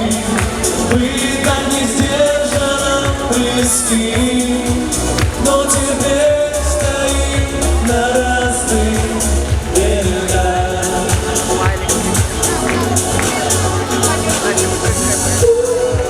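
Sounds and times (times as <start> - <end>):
heavy bass: 0.0 - 16.0
instrumental pop ballad: 0.0 - 16.0.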